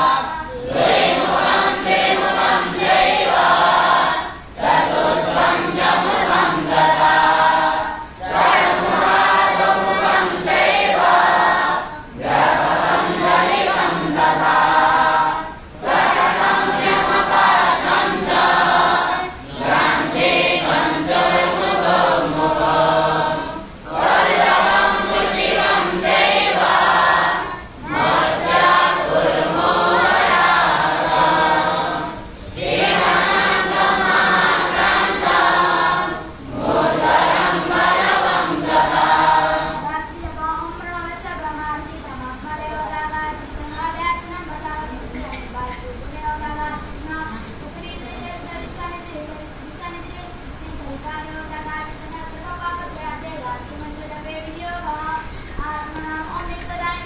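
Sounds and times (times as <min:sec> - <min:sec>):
boys chanting in unison: 0:00.0 - 0:57.0.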